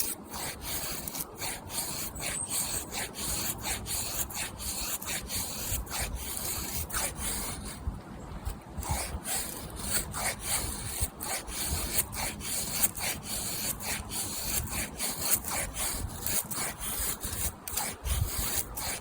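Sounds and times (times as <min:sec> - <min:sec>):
knife scraping wooden stick: 0:00.0 - 0:07.8, 0:08.5 - 0:19.0.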